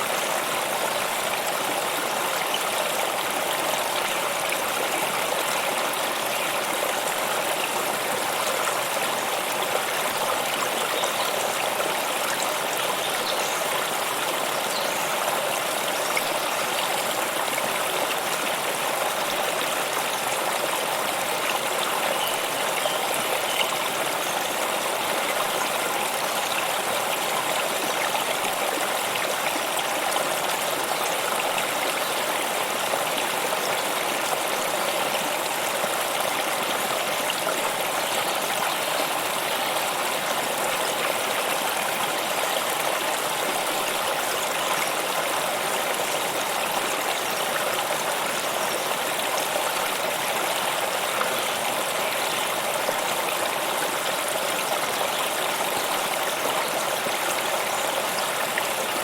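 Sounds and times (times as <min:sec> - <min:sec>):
stream water splashing over rocks: 0:00.0 - 0:59.0.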